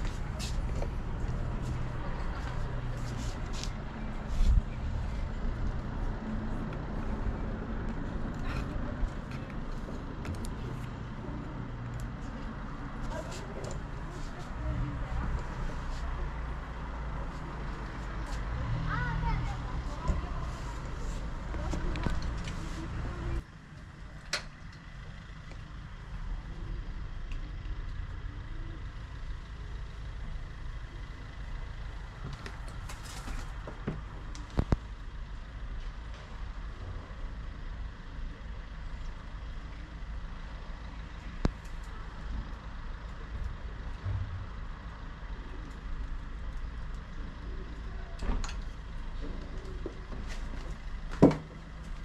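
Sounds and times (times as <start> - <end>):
distant road traffic rumble: 0.0 - 52.0.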